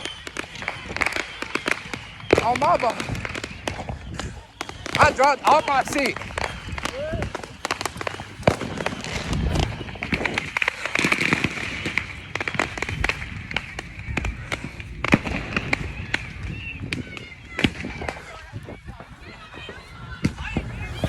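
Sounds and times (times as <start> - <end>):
firecrackers popping: 0.0 - 21.0.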